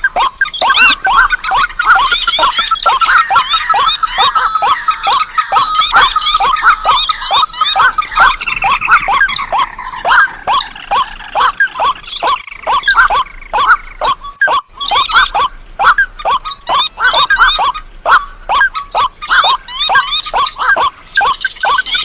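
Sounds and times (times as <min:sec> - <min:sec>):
high chirping notes: 0:00.0 - 0:22.0
marsh birds calling together: 0:00.0 - 0:22.0.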